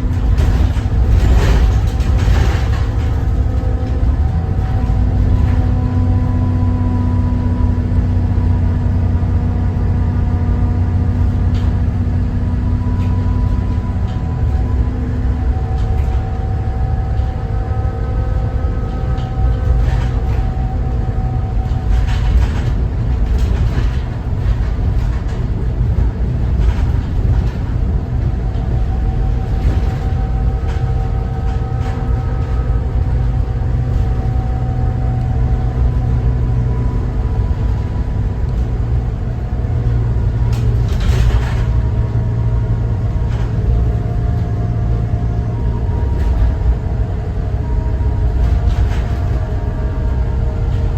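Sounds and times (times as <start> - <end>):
bus body rattling: 0.0 - 50.9
bus engine low drone: 0.0 - 50.9.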